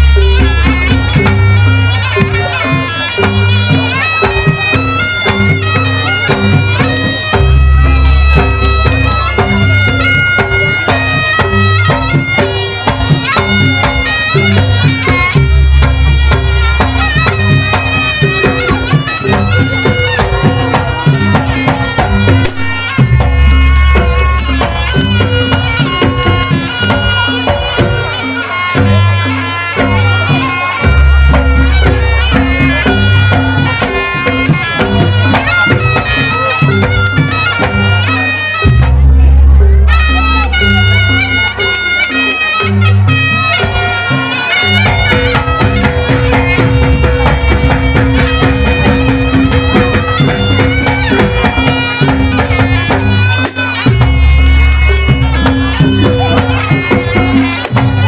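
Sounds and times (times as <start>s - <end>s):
drums beating: 0.0s - 58.0s
gamelan percussion: 0.0s - 58.0s
shrill reedy shawm melody: 0.0s - 58.0s.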